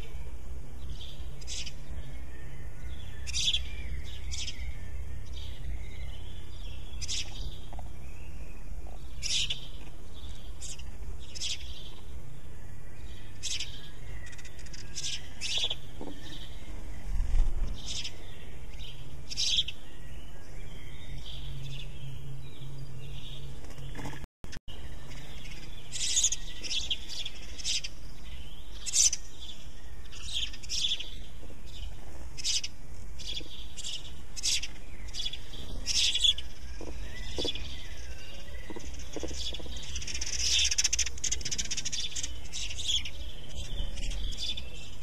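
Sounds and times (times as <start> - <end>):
sparrow chirping: 0.0 - 24.1, 24.7 - 45.0.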